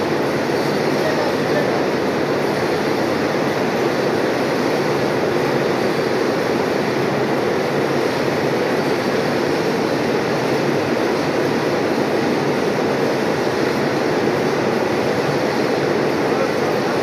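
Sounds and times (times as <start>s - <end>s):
furnace running: 0.0s - 17.0s.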